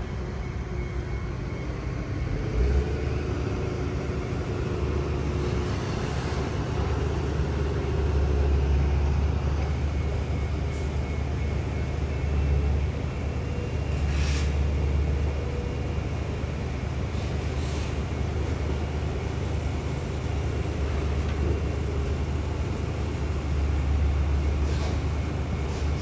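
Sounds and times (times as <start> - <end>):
distant construction and traffic rumble: 0.0 - 26.0.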